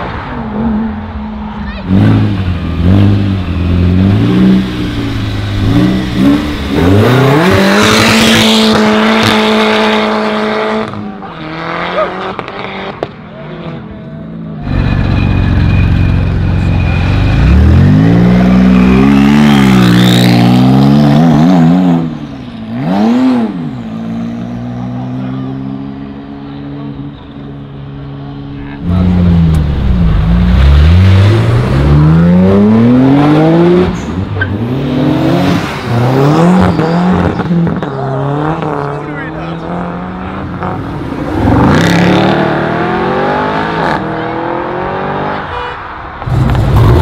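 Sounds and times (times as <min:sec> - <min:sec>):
sports car engines revving: 0:00.0 - 0:47.0.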